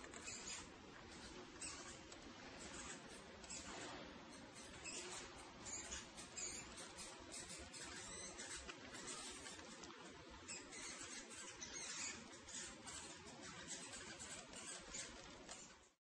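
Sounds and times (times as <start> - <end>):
mice scratching and rustling: 0.0 - 16.0.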